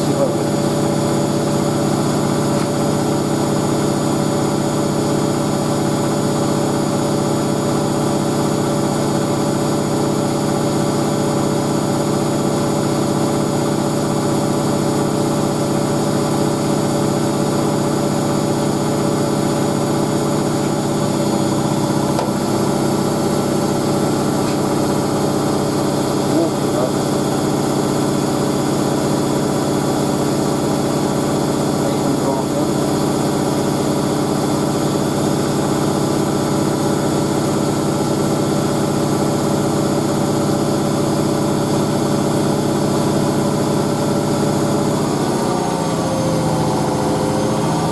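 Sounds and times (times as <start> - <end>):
washing machine drum spinning: 0.0 - 47.9.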